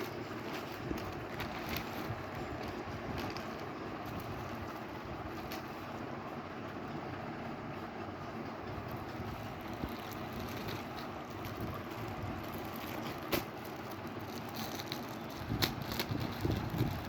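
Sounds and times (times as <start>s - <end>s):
packaging rustling: 0.0s - 6.0s, 9.1s - 17.0s.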